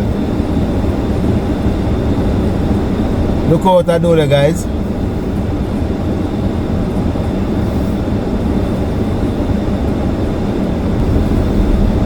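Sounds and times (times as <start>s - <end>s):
car interior engine and road noise: 0.0s - 12.0s.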